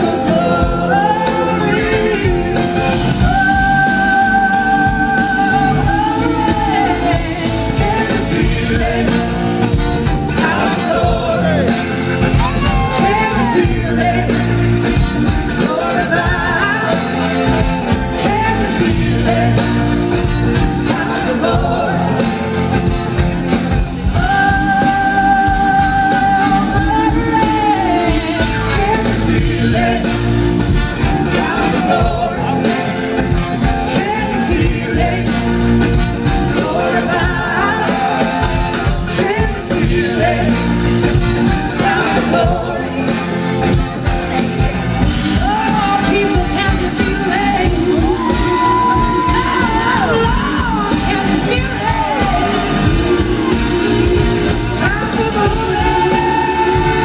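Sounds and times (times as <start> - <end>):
woman singing: 0.0 - 22.6, 24.1 - 30.4, 31.2 - 40.8, 45.3 - 57.0
drums: 0.0 - 57.0
electric guitar: 0.0 - 57.0
horn section: 0.0 - 57.0.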